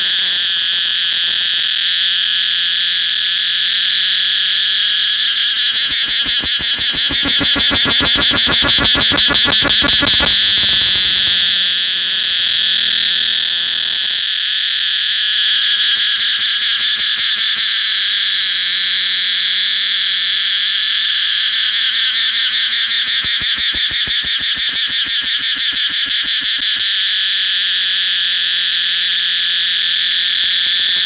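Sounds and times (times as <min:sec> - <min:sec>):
cicada buzzing: 0:00.0 - 0:31.0.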